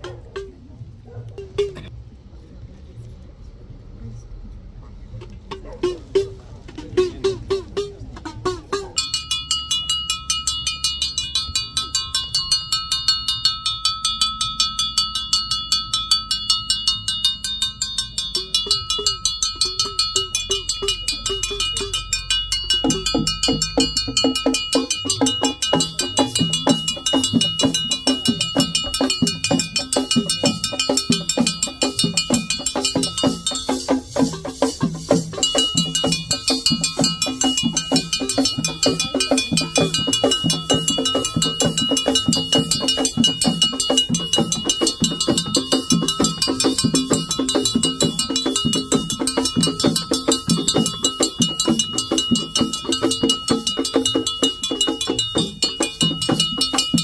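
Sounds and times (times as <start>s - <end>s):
drums beating: 0.0s - 1.9s, 5.2s - 57.0s
bells clanging: 5.5s - 57.0s.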